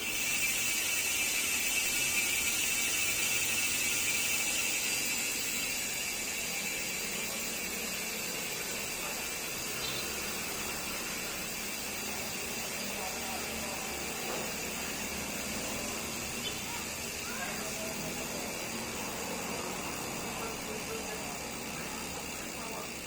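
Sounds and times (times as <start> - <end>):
bicycle freehub ratchet buzzing: 0.0 - 23.0.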